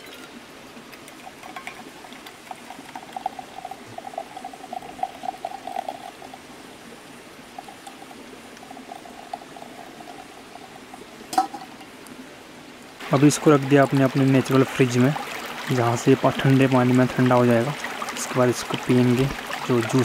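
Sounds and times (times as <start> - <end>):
juice pouring and splattering: 0.9 - 6.5, 7.5 - 11.8, 13.0 - 20.0.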